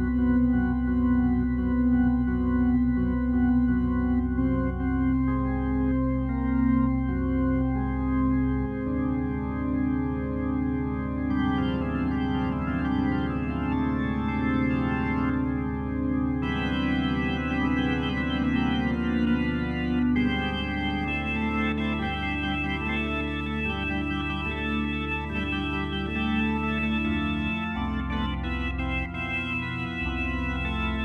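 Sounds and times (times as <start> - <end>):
slow keyboard chords: 0.0 - 31.0.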